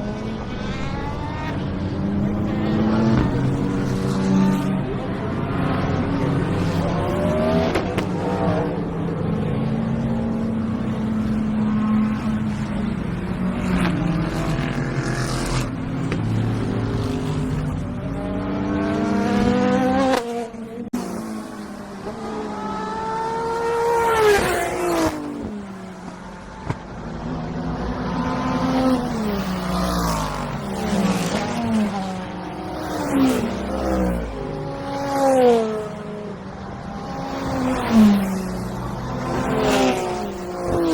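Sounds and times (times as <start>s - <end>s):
race cars passing at speed: 0.0s - 40.9s.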